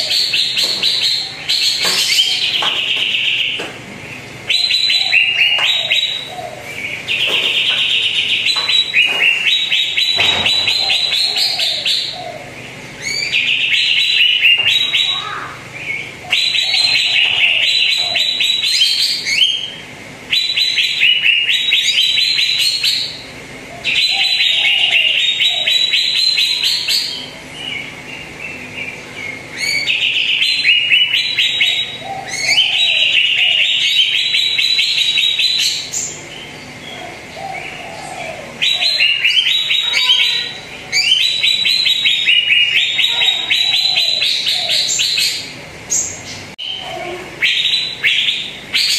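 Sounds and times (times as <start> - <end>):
bird singing trilled phrases: 0.0 - 48.9.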